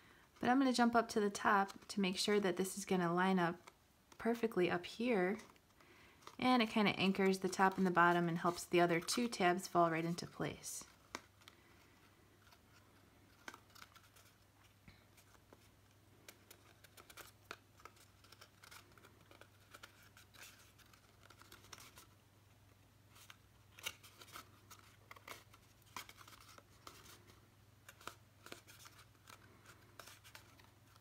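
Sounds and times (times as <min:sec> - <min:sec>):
cardstock crackling and tapping: 0:03.5 - 0:11.6, 0:12.4 - 0:22.2, 0:23.1 - 0:31.0.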